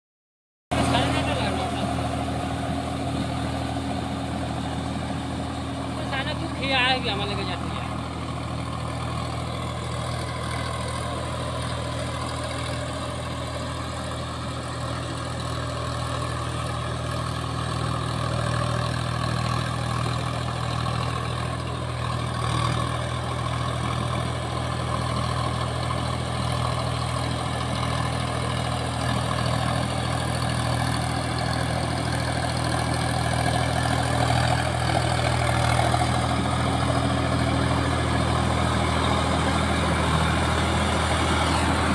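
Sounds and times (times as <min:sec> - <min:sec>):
tractor diesel engine running: 0:00.7 - 0:41.9.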